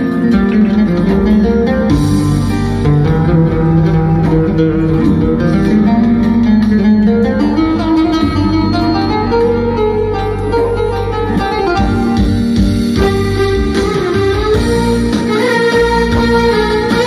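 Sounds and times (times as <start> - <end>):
plucked-string keyboard melody: 0.0 - 17.0
steady bass line: 0.0 - 17.0.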